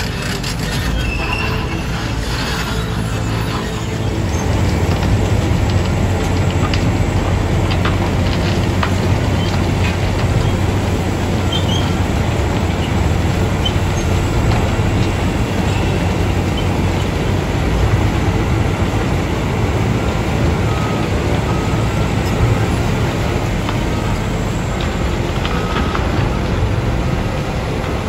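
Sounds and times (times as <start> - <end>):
milling machine diesel drone: 0.0 - 28.0.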